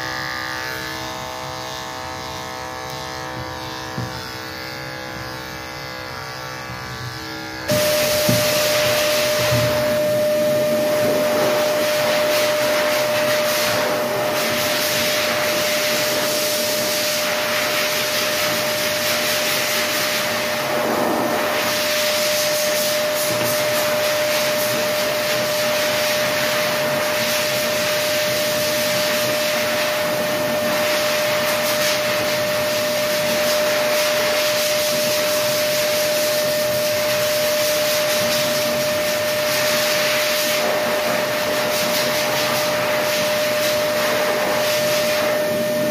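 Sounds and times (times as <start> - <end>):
machine hissing and humming: 0.0 - 45.9.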